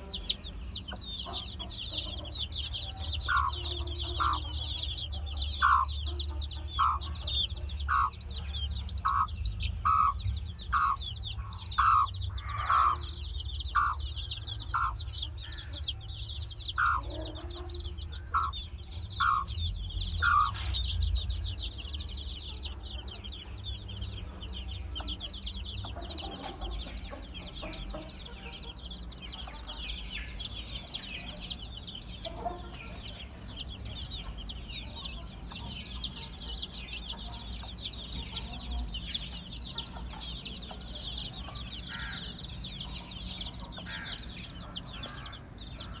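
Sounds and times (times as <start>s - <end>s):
chicks peeping: 0.0s - 46.0s
hen clucking: 0.0s - 46.0s.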